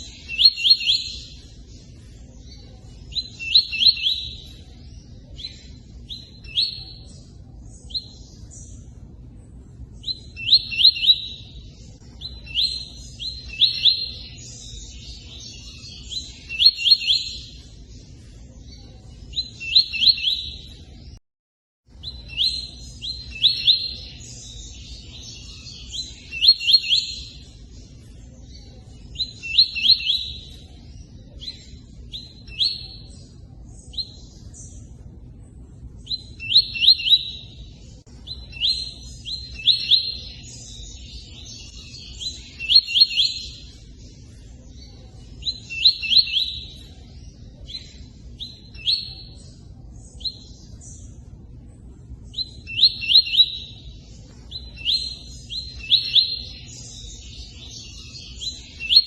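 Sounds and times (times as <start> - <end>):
bird singing rapid repeated notes: 0.0 - 21.2, 21.9 - 59.0.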